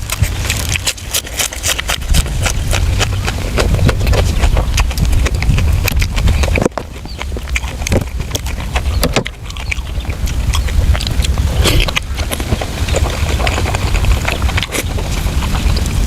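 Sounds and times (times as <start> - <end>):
close chewing mouth sounds: 0.0 - 16.0
steady low rumble: 0.0 - 16.0.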